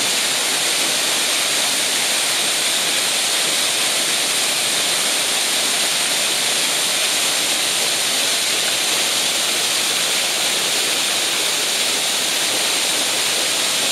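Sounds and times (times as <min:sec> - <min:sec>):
waterfall splashing on rock: 0:00.0 - 0:13.9.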